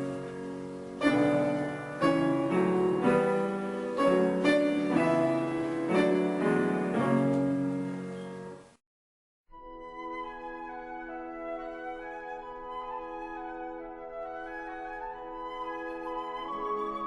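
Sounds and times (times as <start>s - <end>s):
piano music: 0.0s - 8.8s, 9.5s - 17.0s.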